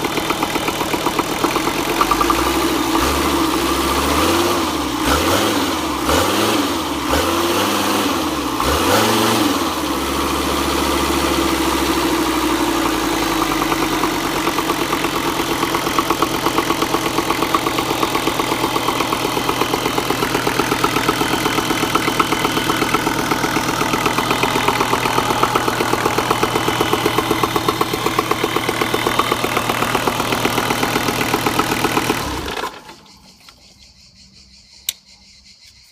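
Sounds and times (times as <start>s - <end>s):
marine diesel engine revving and idling: 0.0s - 32.8s.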